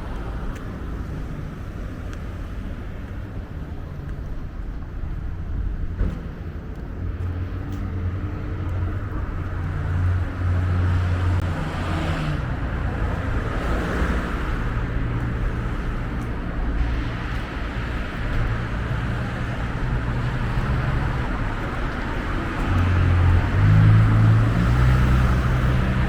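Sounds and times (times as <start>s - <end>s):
car tyres passing: 0.0s - 26.0s
vehicle engine running low: 2.6s - 26.0s.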